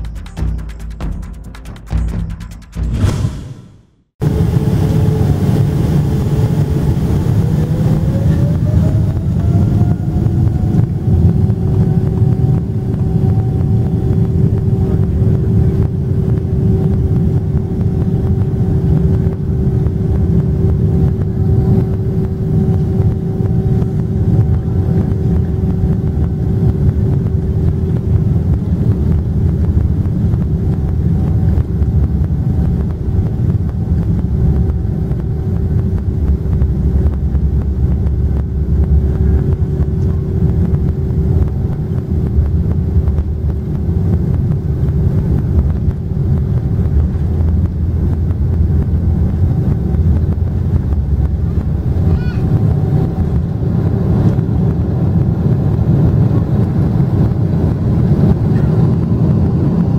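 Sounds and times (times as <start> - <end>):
jet engine whine: 2.8 - 59.9
loud constant engine rumble: 4.2 - 59.9.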